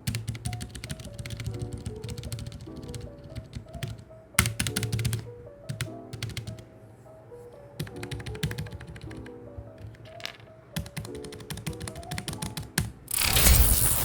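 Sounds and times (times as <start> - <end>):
mechanical keyboard typing: 0.0 - 6.6, 7.8 - 14.0
lofi background music: 0.0 - 14.0.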